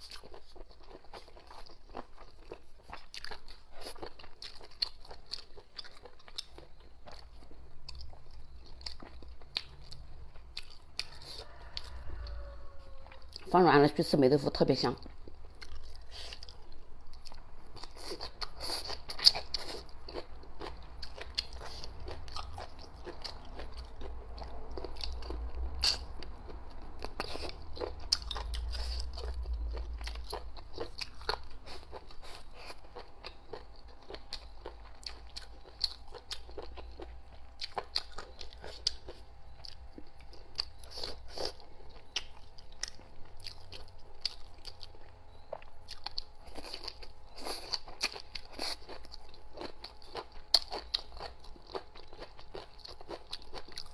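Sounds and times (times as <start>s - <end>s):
wet chewing: 0.0s - 13.5s, 15.0s - 53.9s.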